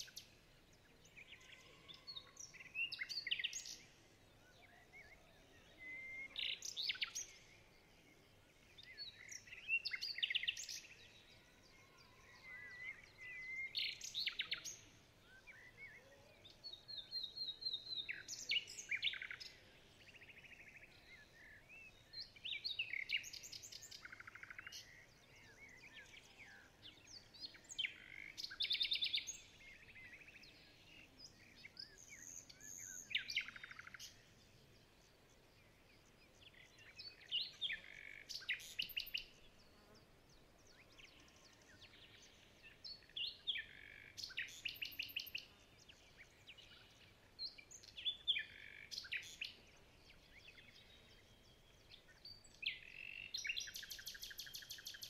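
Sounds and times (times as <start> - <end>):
birds chirping and trilling: 0.0 - 55.0.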